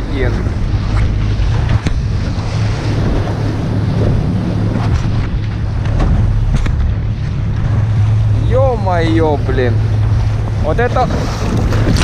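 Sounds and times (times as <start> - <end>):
waves knocking on hull: 0.0 - 12.0
waves slapping boat: 0.0 - 12.0
wind buffeting microphone: 0.0 - 12.0.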